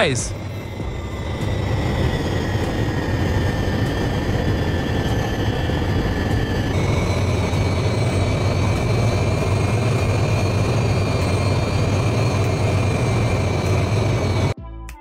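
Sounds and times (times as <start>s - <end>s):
jet engines in flight: 0.0s - 14.6s.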